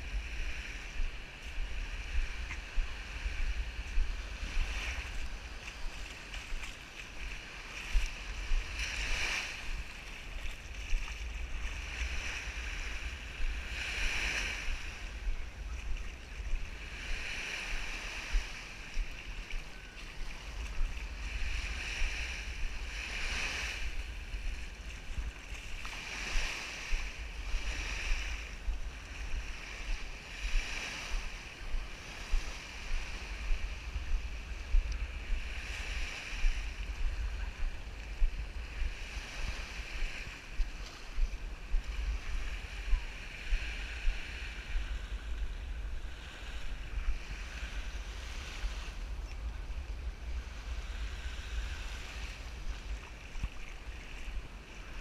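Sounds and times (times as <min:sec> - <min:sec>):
small waves lapping at shore: 0:00.0 - 0:55.0
wind rumble on microphone: 0:00.0 - 0:55.0.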